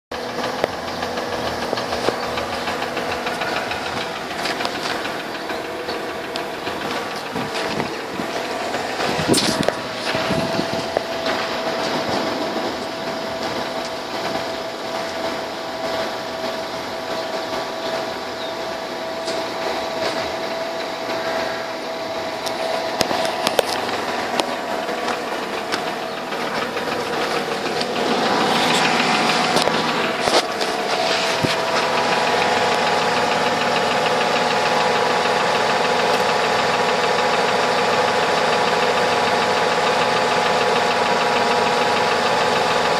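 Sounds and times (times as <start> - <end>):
engine with rapid knock: 0.1 - 42.9.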